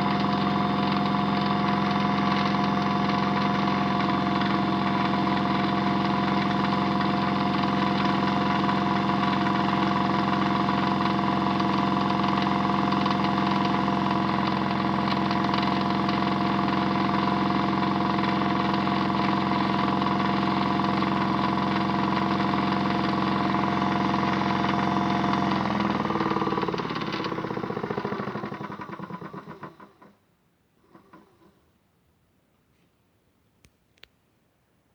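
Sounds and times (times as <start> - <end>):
small electric motor humming: 0.0 - 30.0.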